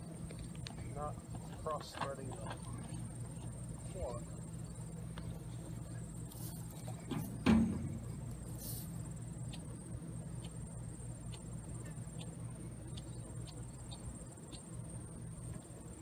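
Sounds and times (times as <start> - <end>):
insects chirring: 0.0 - 16.0
low hum: 0.0 - 16.0.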